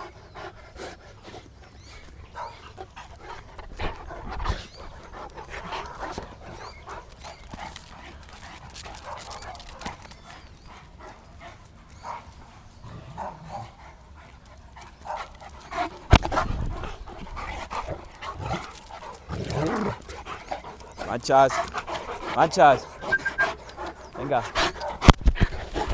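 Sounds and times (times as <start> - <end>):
dog noises: 0.0 - 25.9.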